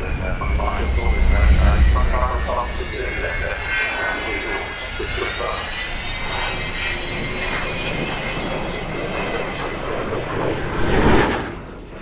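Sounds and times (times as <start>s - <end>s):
jet engine whine: 0.0s - 12.0s.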